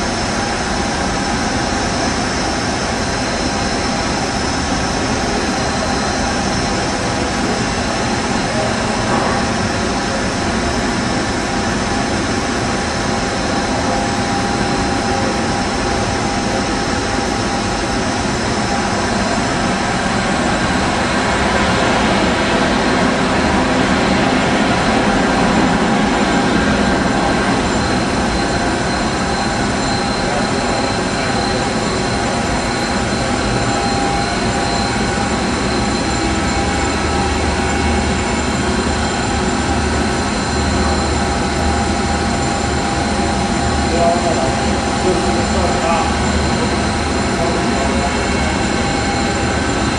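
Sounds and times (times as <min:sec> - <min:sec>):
high machine whine: 0:00.0 - 0:49.9
machinery drone: 0:00.0 - 0:49.9.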